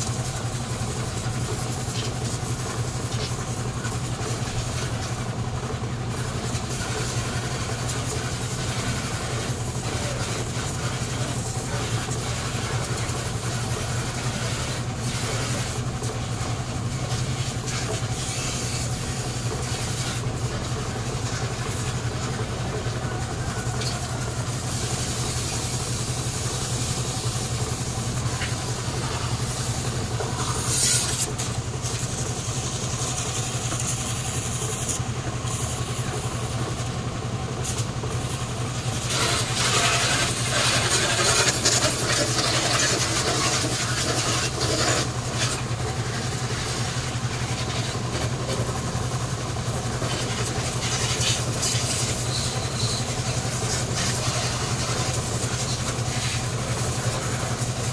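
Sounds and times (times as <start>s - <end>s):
hose water spraying and splashing: 0.0s - 57.9s.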